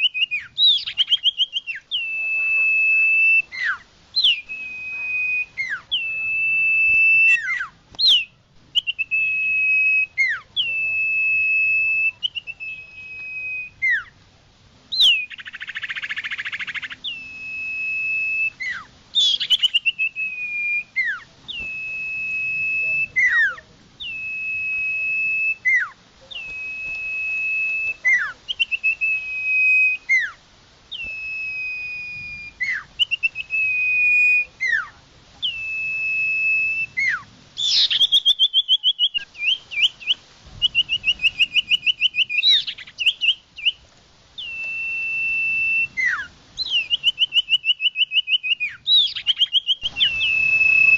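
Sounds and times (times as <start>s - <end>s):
bird whistles with downward slur: 0.0s - 14.2s, 14.9s - 43.8s, 44.4s - 50.9s.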